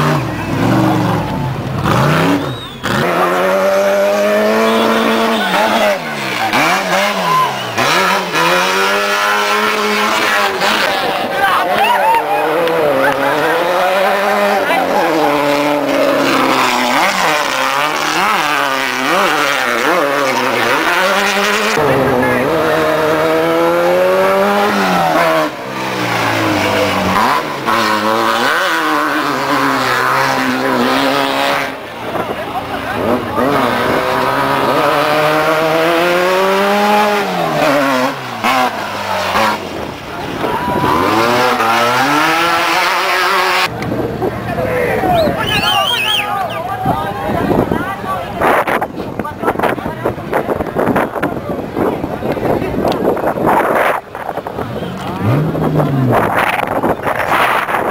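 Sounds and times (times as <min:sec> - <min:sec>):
another vehicle: 0:00.0 - 0:57.9
race car engine revving: 0:00.0 - 0:57.9.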